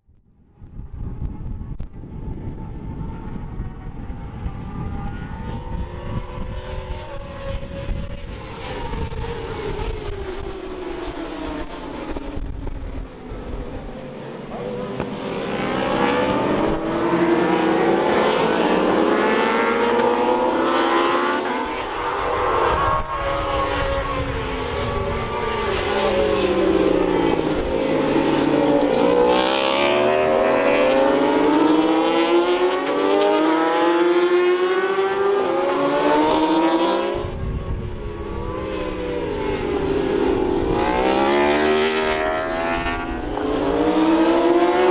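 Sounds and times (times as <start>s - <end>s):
racing motorcycles passing: 2.5s - 44.9s.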